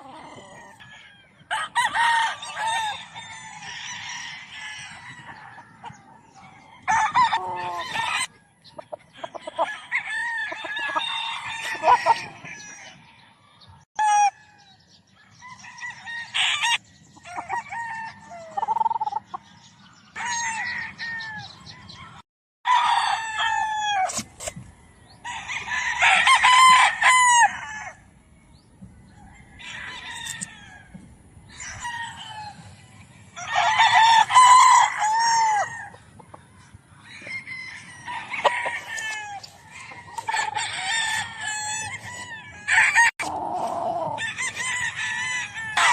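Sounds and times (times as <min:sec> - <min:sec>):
roosters crowing: 0:00.0 - 0:45.9.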